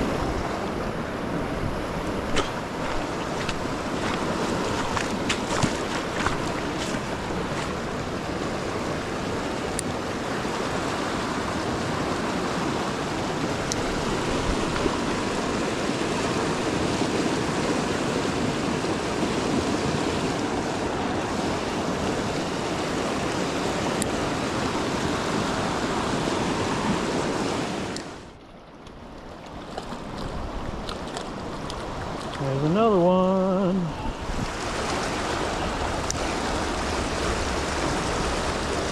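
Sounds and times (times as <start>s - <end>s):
river current rushing: 0.0s - 38.9s.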